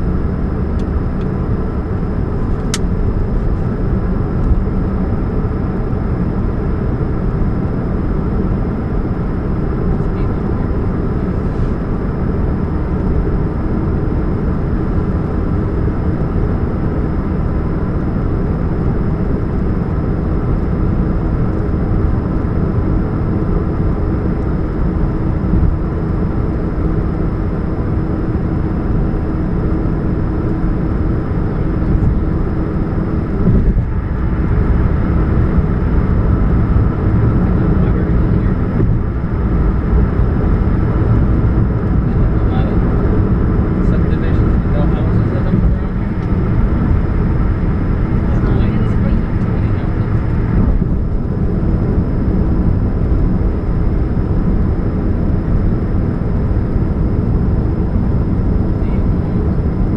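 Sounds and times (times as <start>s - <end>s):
car engine droning: 0.0s - 59.9s
faint steady hum: 0.0s - 59.9s.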